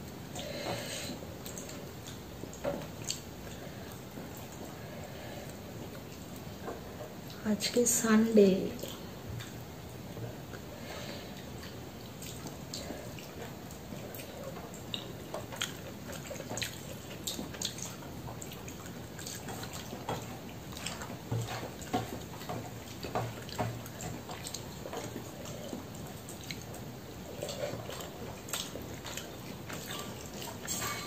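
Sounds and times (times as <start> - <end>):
wet chewing: 0.0 - 7.4, 8.8 - 31.0.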